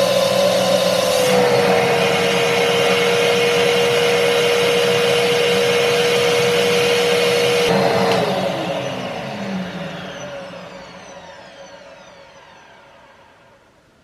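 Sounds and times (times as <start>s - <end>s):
vacuum cleaner motor whining: 0.0s - 14.0s.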